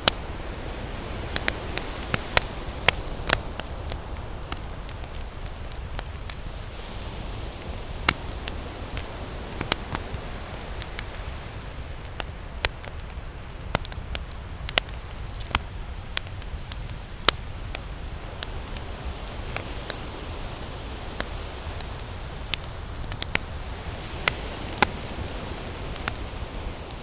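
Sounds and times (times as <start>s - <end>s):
campfire crackling and popping: 0.0s - 27.0s
low rumble of surf: 0.0s - 27.0s.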